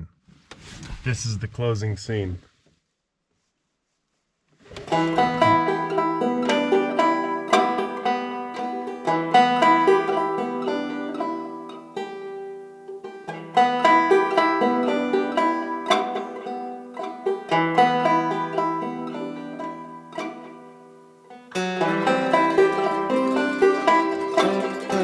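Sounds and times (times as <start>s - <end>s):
plucked banjo tune: 4.8s - 25.0s.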